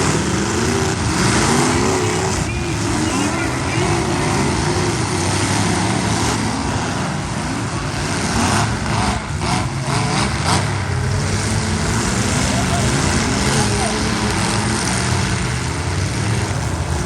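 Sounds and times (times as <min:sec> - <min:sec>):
car engines revving loudly: 0:00.0 - 0:17.0.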